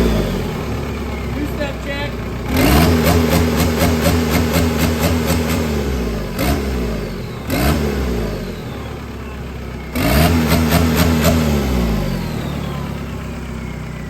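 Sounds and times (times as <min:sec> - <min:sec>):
diesel engine revving: 0:00.0 - 0:14.0.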